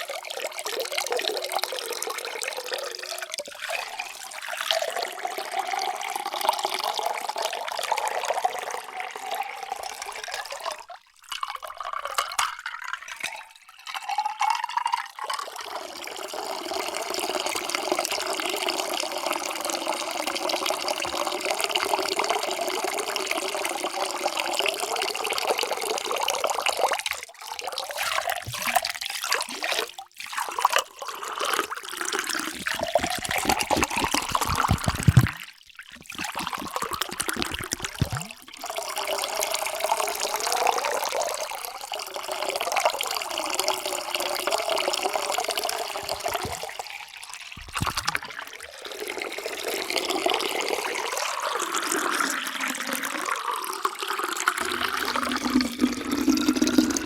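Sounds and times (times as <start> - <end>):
water pouring into vessels: 0.0 - 57.0.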